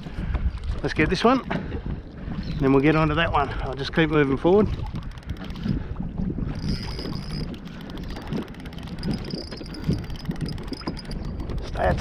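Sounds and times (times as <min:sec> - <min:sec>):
water against kayak hull: 0:00.0 - 0:12.0
wind buffeting microphone: 0:00.0 - 0:12.0.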